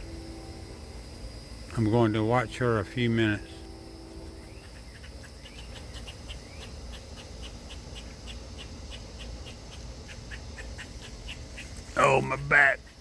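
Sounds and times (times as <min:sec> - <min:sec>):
insect chirping: 0:00.0 - 0:13.0
steady low rumble: 0:00.0 - 0:13.0.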